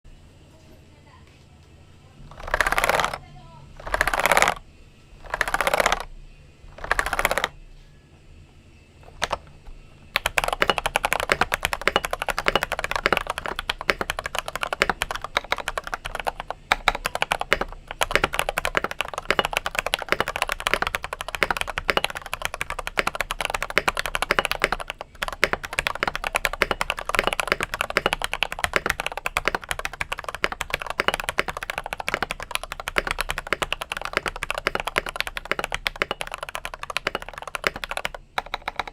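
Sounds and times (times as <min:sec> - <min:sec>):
mechanical keyboard typing: 0:02.3 - 0:03.2, 0:03.8 - 0:04.6, 0:05.2 - 0:06.1, 0:06.7 - 0:07.6, 0:09.0 - 0:38.9.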